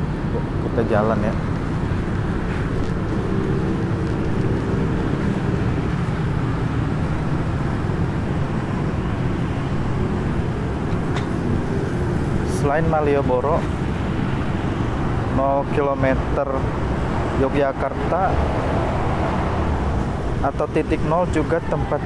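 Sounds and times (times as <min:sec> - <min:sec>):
engine hum: 0:00.0 - 0:22.0
road traffic: 0:00.0 - 0:22.0.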